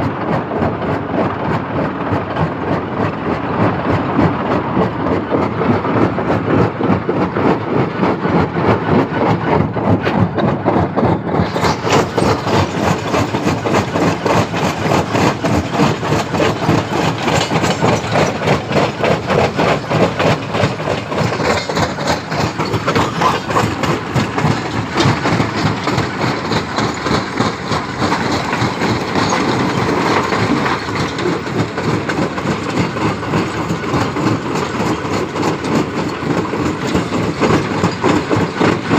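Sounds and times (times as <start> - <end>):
stone crusher rattling rocks: 7.3 - 38.9.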